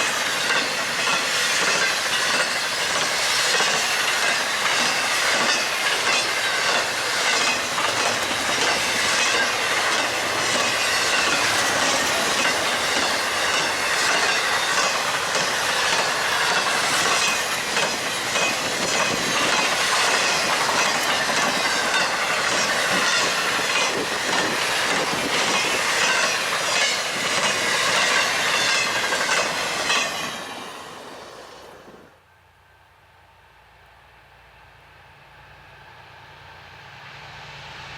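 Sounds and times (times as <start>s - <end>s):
wheels clacking over rails: 0.0s - 30.6s
freight train rushing rumble: 0.0s - 32.2s, 33.6s - 37.9s.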